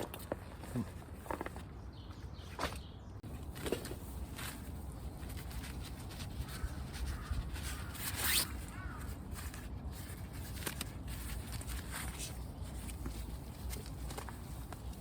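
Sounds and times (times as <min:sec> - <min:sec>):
handling clicks and rustles: 0:00.0 - 0:15.0.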